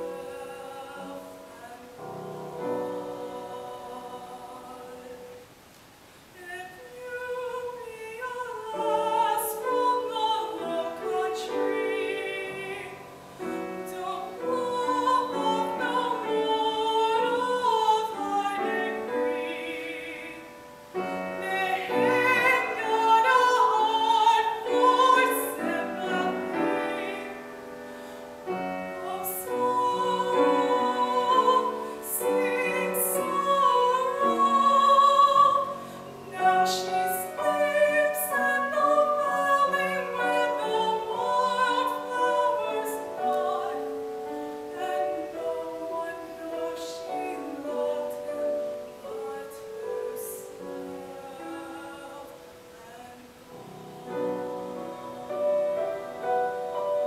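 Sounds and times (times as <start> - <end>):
piano accompaniment: 0.0 - 5.4, 7.2 - 57.0
woman singing with vibrato: 0.0 - 5.6, 6.2 - 57.0.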